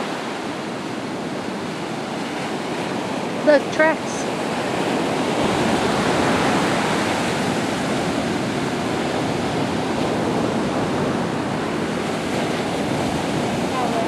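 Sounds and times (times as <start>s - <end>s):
waves breaking on sandy beach: 0.0s - 14.0s.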